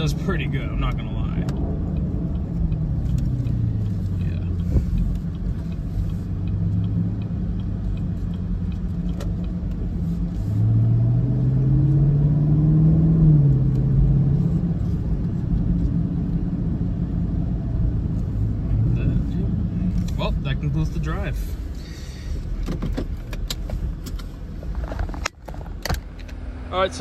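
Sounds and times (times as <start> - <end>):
car engine from inside cabin: 0.0 - 27.0
road rumble: 0.0 - 27.0.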